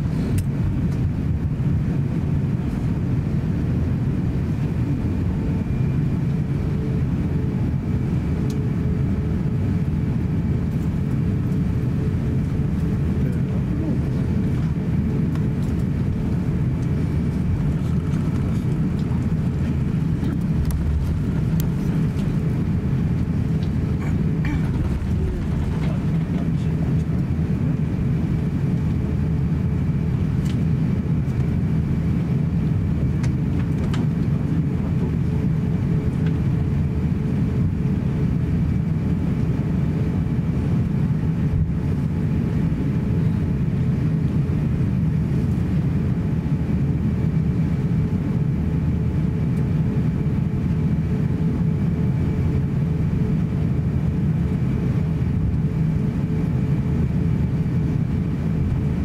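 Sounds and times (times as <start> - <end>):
airplane cabin low rumble: 0.0 - 59.0
faint steady whine: 0.0 - 59.0.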